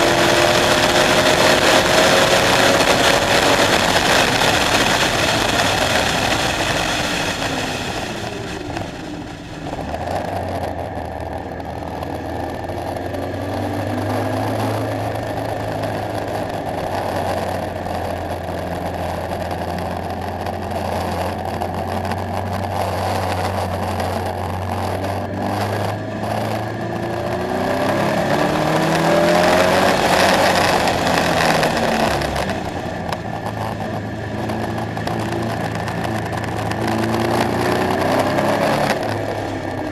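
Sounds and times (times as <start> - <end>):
sports car engine accelerating: 0.0 - 39.9.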